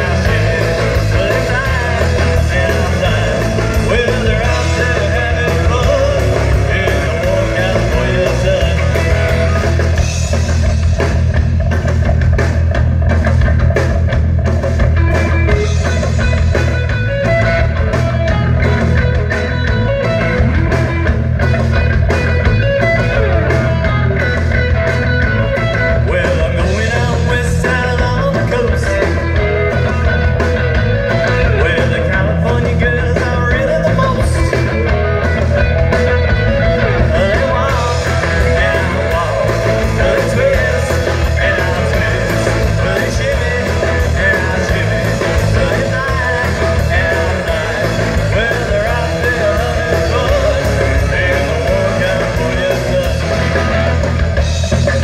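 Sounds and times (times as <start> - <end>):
drum kit beat: 0.0 - 55.0
electric bass: 0.0 - 55.0
electric guitars: 0.0 - 55.0.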